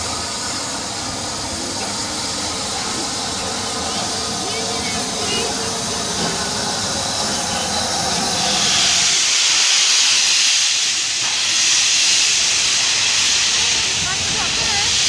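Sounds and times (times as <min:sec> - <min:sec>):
steam hissing from locomotive: 0:00.0 - 0:15.0.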